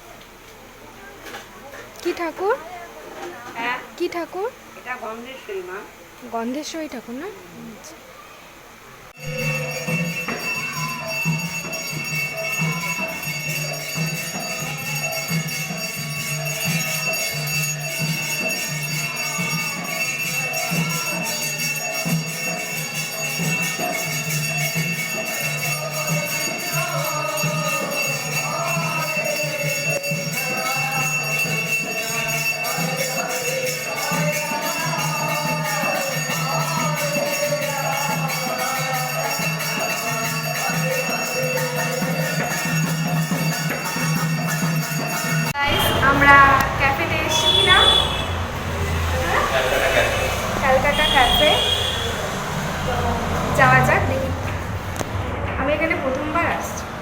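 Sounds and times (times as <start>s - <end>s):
music with jingling rhythm: 9.2s - 55.0s.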